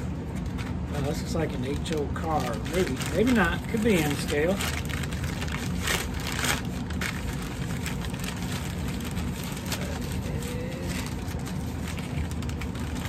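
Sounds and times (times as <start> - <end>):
packaging crinkling and rustling: 0.0 - 13.0
steady low hum: 0.0 - 13.0.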